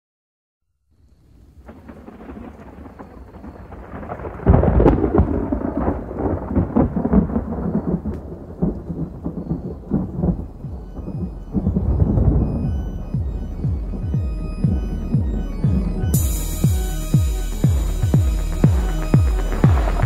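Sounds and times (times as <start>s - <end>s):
thunder rumbling: 1.2s - 20.0s.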